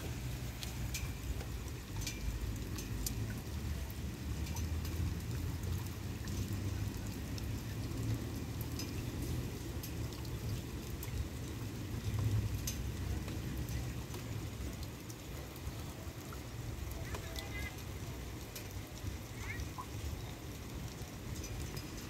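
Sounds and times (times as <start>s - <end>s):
rain drops ticking: 0.0s - 22.0s.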